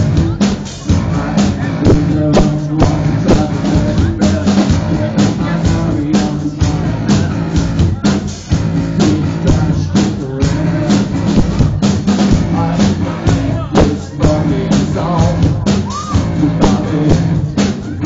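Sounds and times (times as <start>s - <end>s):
drum kit beat: 0.0s - 18.0s
man singing into microphone: 0.2s - 11.7s, 12.3s - 18.0s.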